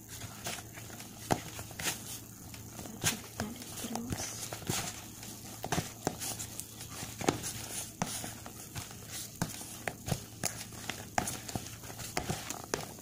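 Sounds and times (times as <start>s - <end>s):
dough squishing and slapping: 0.0s - 13.0s.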